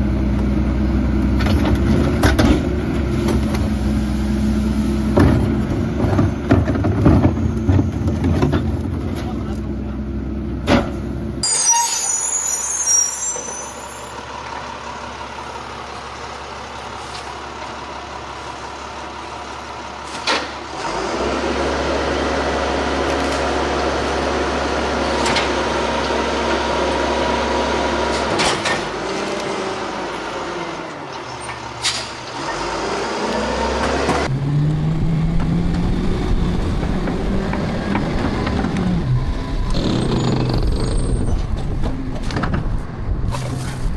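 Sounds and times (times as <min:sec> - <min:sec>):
garbage truck engine: 0:00.0 - 0:43.9.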